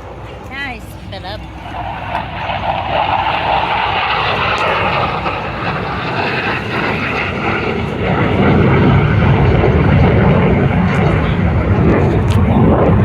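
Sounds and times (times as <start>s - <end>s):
jet flying overhead: 0.0s - 13.0s.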